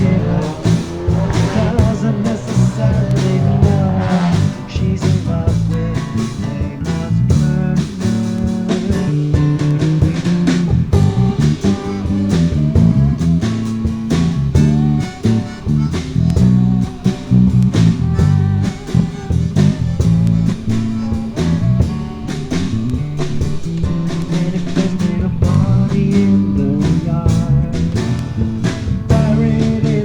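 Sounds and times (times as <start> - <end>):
bass guitar: 0.0 - 30.0
drum kit: 0.0 - 30.0
guitar: 0.0 - 30.0.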